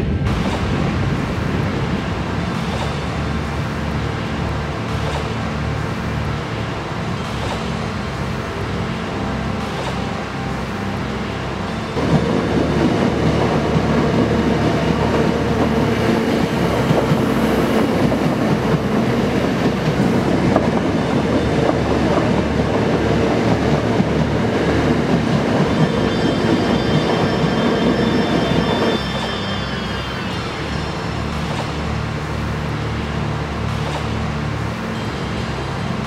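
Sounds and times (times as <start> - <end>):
faint high whine: 0.0 - 36.0
train wheels rumbling on rails: 0.0 - 36.0.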